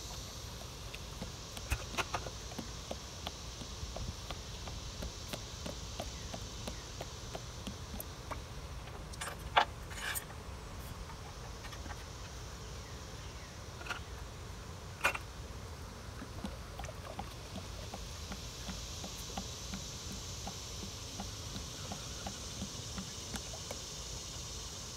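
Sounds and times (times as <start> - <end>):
low outdoor background: 0.0 - 24.9.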